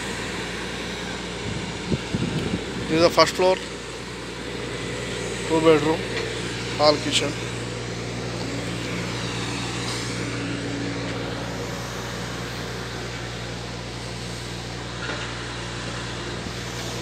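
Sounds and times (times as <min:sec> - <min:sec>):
low mechanical hum: 0:00.0 - 0:17.0
outdoor noise: 0:00.0 - 0:17.0.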